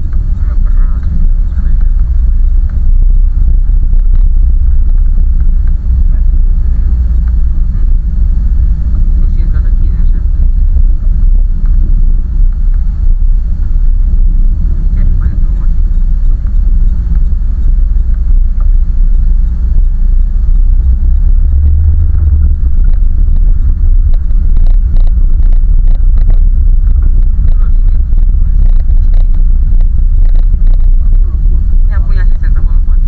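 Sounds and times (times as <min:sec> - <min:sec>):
car engine rumbling in snow: 0:00.0 - 0:33.0.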